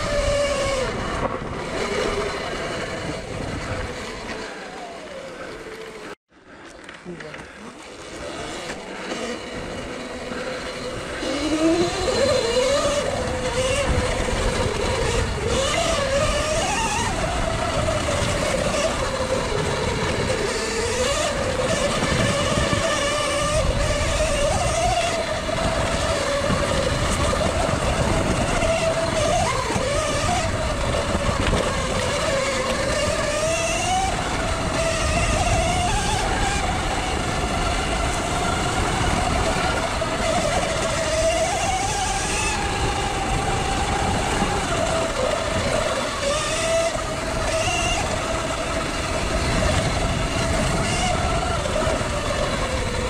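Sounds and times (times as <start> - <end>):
electric motor whining: 0.0 - 6.2, 7.1 - 53.0.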